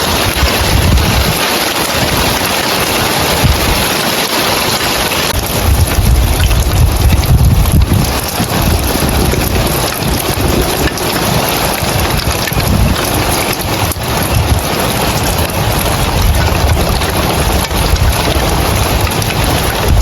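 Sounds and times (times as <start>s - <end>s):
heavy rain on roof tiles: 0.0s - 20.0s
wind gusting on microphone: 0.0s - 20.0s.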